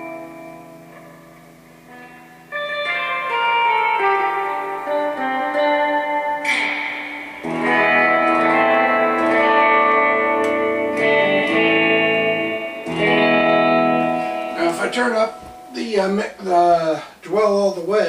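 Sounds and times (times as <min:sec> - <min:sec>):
electric guitar chords strummed: 0:00.0 - 0:16.8.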